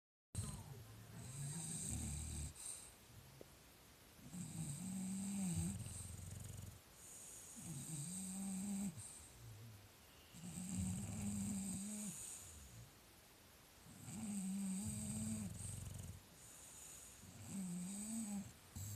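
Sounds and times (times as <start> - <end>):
dog snoring with whistle: 0.4 - 2.9, 4.2 - 9.5, 10.2 - 12.9, 13.9 - 18.9.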